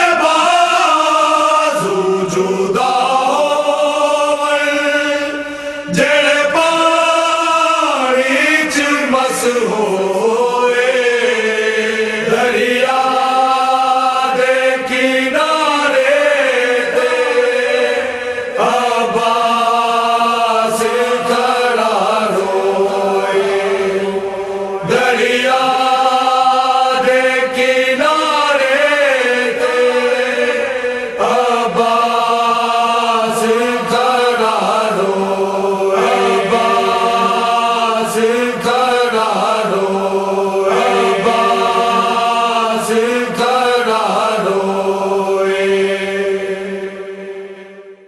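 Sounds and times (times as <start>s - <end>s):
person chanting: 0.0s - 48.0s
steady held drone: 0.0s - 48.0s.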